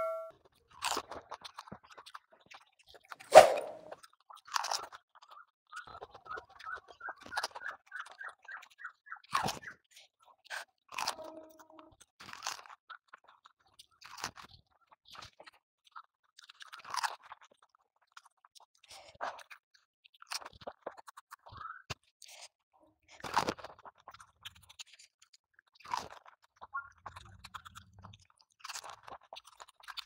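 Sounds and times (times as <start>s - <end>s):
crunchy food being chewed: 0.6s - 3.3s, 3.9s - 30.0s.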